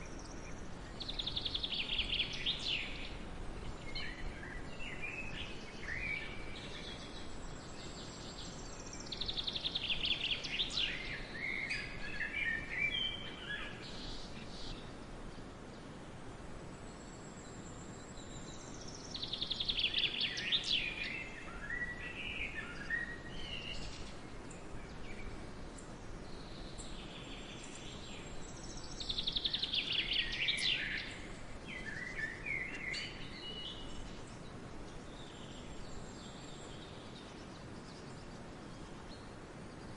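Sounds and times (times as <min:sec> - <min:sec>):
forest hiss: 0:00.0 - 0:39.9
songbird singing: 0:00.0 - 0:39.9.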